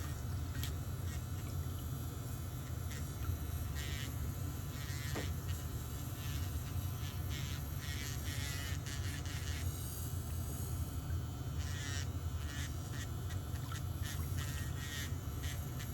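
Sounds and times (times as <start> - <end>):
small motor buzzing: 0.0 - 15.9
steady low hum: 0.0 - 15.9.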